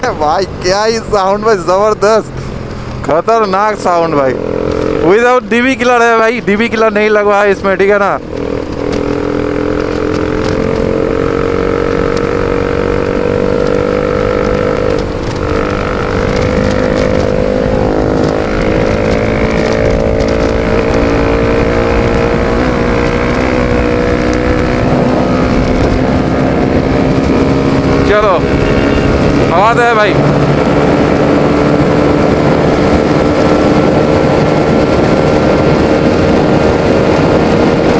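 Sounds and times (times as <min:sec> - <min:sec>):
motorcycle engine at high revs: 0:00.0 - 0:37.9.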